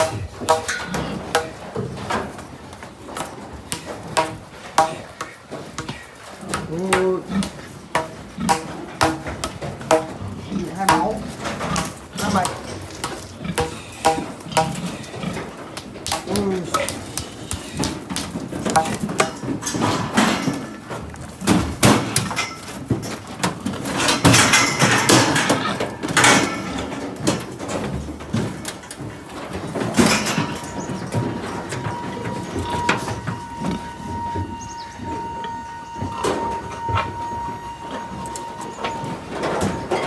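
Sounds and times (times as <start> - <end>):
metal clanking and rattling: 0.0 - 6.6, 7.3 - 33.5.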